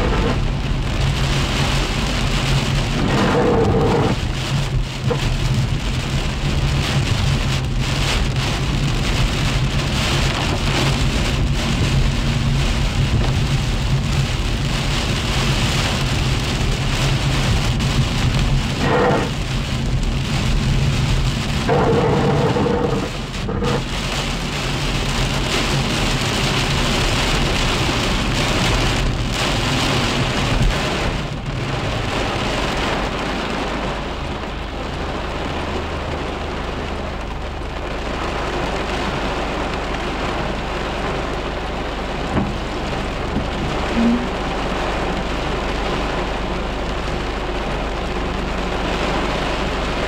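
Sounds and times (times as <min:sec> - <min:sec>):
heavy rain on car roof: 0:00.0 - 0:50.0.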